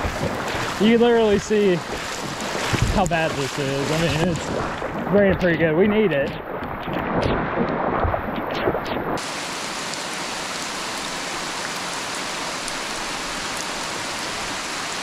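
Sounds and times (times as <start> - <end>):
heavy rain on river: 0.0 - 15.0.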